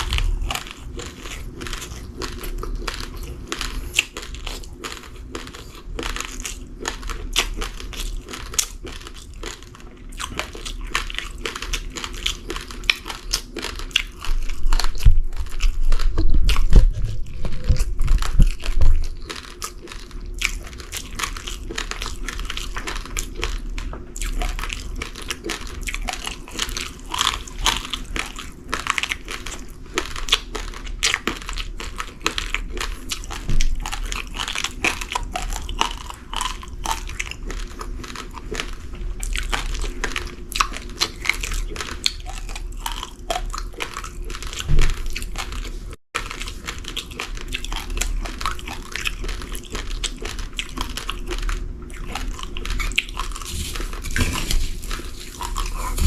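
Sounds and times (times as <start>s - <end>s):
person chewing rice grains: 0.0s - 56.0s.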